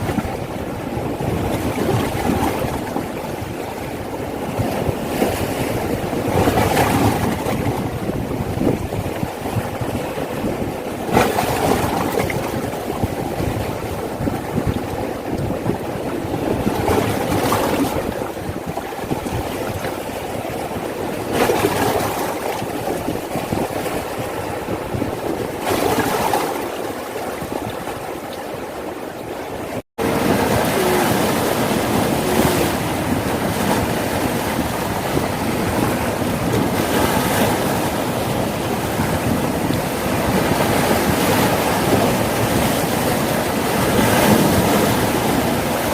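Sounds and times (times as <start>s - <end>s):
sea waves washing onto beach: 0.0s - 45.9s.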